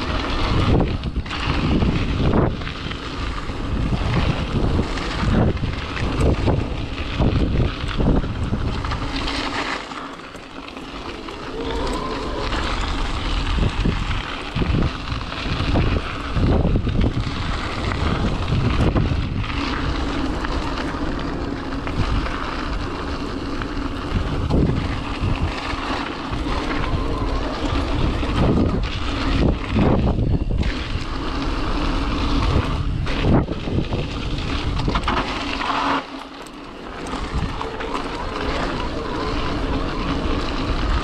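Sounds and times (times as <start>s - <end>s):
wind buffeting microphone: 0.0s - 9.8s, 10.4s - 36.0s, 36.7s - 41.0s
bike rattling on rough trail: 0.0s - 41.0s.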